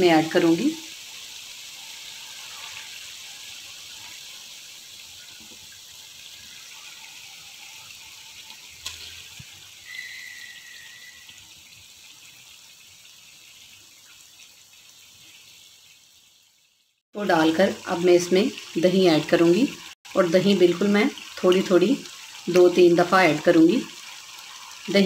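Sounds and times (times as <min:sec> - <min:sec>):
spices sizzling in a pan: 0:00.0 - 0:25.0.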